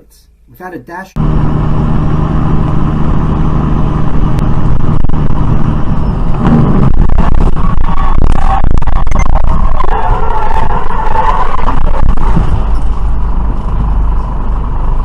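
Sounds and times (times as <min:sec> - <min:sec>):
car engine and road noise: 0:01.2 - 0:15.0.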